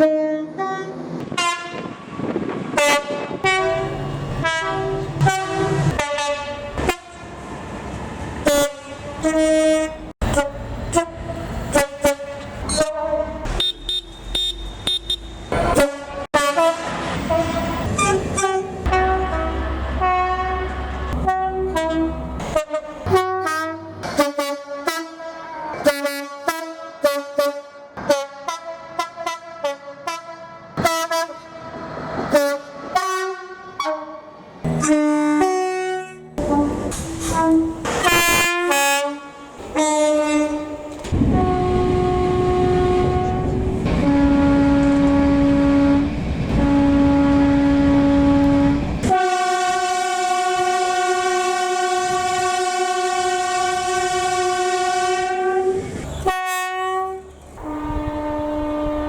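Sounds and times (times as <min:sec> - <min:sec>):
train horn blasts: 0:00.0 - 0:02.1, 0:02.7 - 0:07.4, 0:08.4 - 0:59.0
low train rumble: 0:00.0 - 0:59.0.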